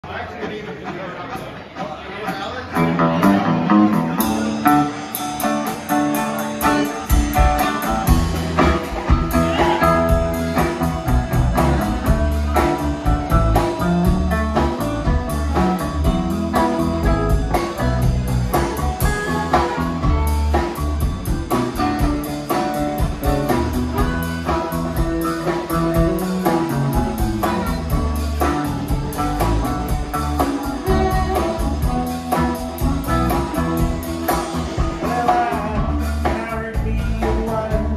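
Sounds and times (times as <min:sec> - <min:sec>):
keyboards: 0:00.0 - 0:37.9
drum kit: 0:00.3 - 0:37.9
electric guitar: 0:02.2 - 0:37.9
electric bass: 0:02.8 - 0:37.9.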